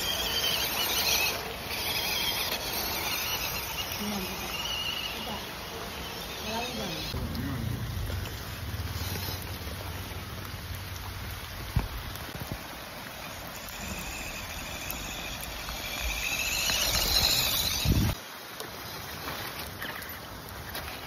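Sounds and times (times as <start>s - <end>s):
rain hissing: 0.0s - 18.9s
running water: 0.0s - 21.0s.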